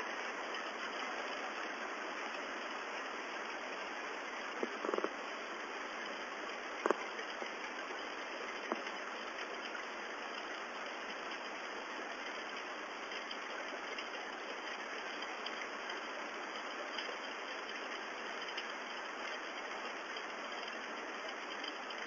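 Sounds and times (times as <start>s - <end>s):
rain hissing: 0.0s - 22.0s
raindrop ticks: 0.1s - 22.0s.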